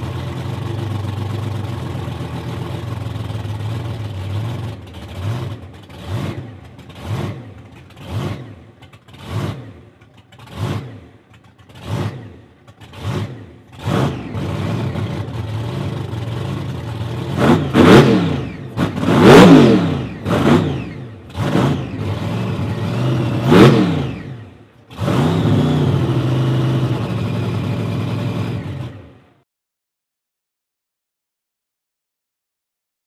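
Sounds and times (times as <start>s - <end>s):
engine idling roughly: 0.0s - 23.5s, 24.2s - 29.4s
supercharged engine revving: 0.0s - 29.1s.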